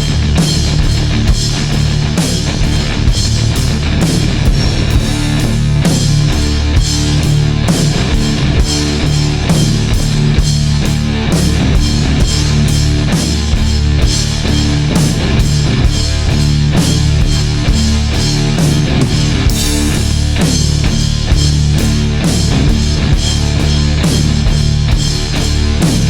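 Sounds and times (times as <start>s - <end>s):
rock music with distorted guitar: 0.0s - 26.0s.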